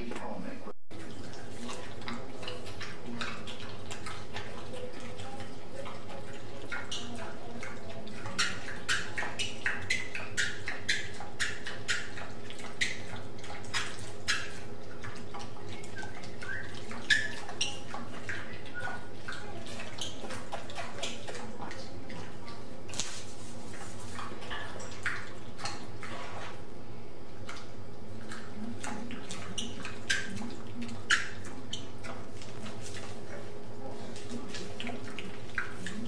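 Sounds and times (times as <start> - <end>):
pigs clicking on tiled floor: 0.0 - 26.7, 27.4 - 36.0.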